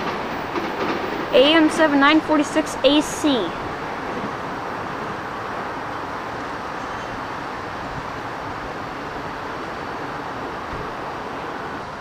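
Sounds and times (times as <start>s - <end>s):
train wheel and rail noise: 0.0s - 12.0s.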